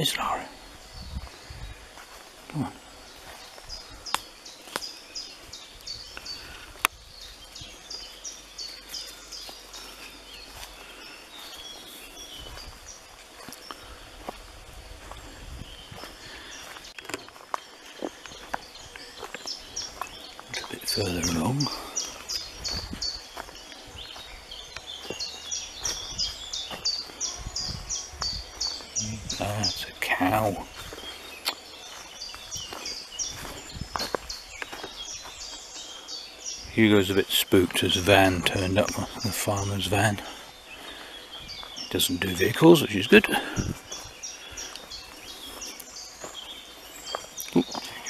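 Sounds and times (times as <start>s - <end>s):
songbird chirping: 0.0s - 48.0s
footsteps on dry leaves: 0.3s - 48.0s.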